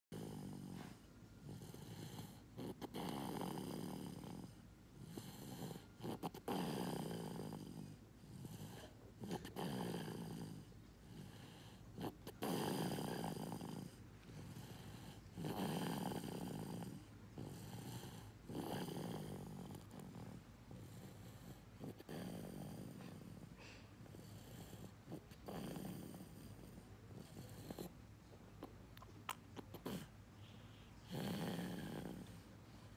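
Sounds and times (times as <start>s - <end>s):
rasping snores: 0.1s - 28.0s, 29.6s - 32.4s
quiet breathing: 0.1s - 32.9s.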